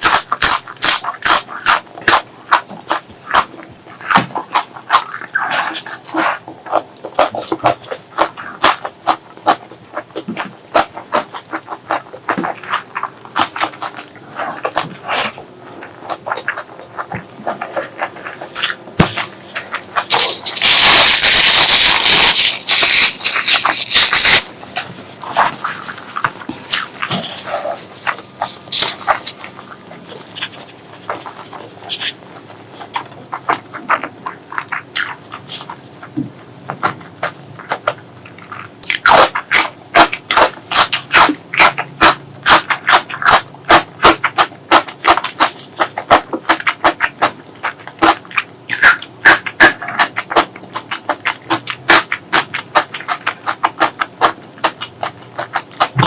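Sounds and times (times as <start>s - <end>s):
wet chewing and lip-smacking: 0.0s - 56.0s.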